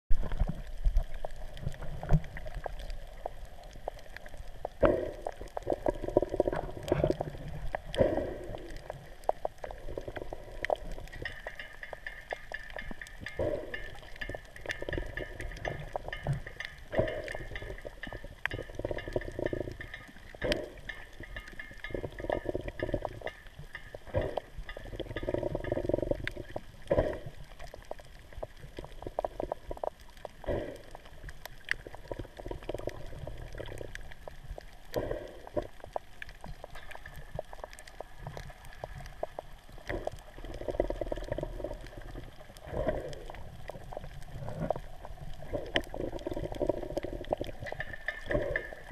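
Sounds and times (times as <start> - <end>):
underwater gurgling: 0.1 - 48.9.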